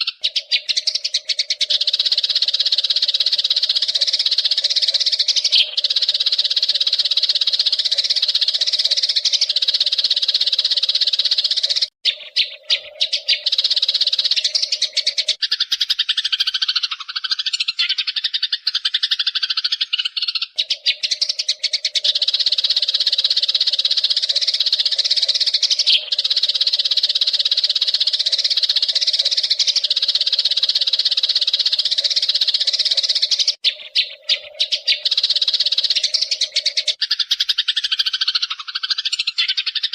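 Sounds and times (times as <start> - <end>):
bird call rising and falling: 0.0 - 39.9
sparrows chattering: 0.0 - 39.9.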